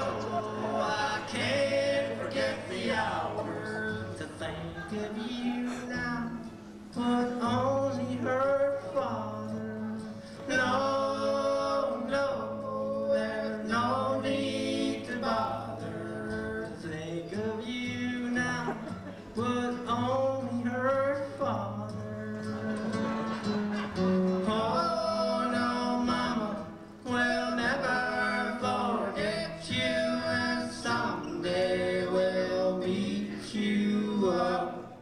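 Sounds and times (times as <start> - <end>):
male voices singing in harmony: 0.0 - 35.0.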